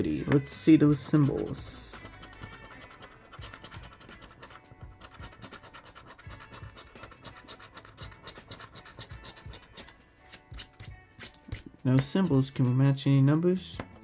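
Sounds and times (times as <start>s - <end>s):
scratching lottery ticket: 1.0s - 12.6s.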